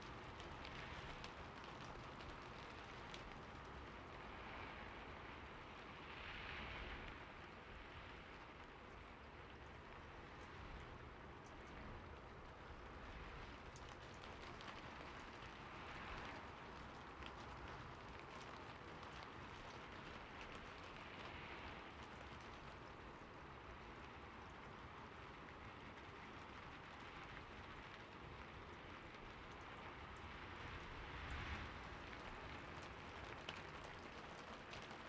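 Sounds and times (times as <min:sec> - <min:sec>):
rain on a roof: 0:00.0 - 0:35.0.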